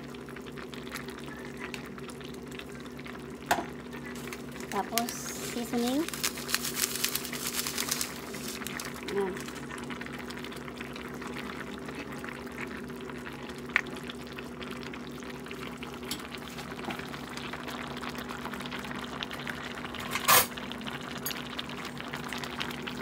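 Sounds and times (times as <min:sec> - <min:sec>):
sauce bubbling in a wok: 0:00.0 - 0:23.0.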